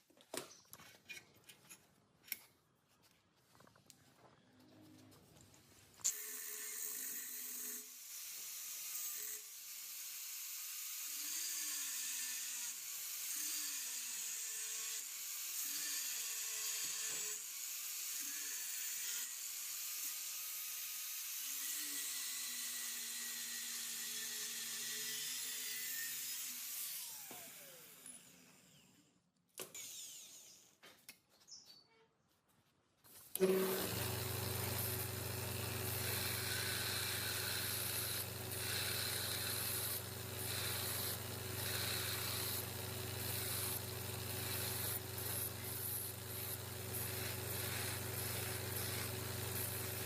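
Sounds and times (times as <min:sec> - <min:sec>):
power tool running: 0:06.0 - 0:30.7, 0:33.3 - 0:50.0.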